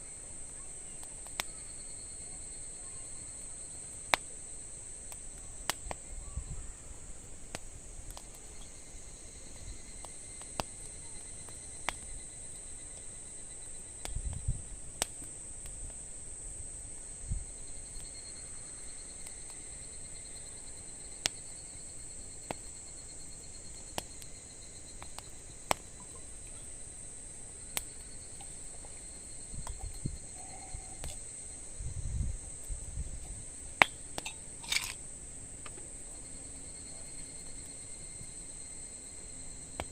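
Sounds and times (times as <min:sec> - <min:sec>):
campfire crackling and popping: 0:00.0 - 0:06.2, 0:06.8 - 0:39.9
crickets chirring: 0:00.0 - 0:39.9.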